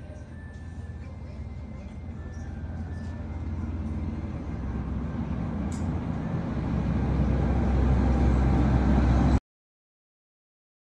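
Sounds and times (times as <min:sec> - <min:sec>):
low rumbling noise: 0:00.0 - 0:09.4.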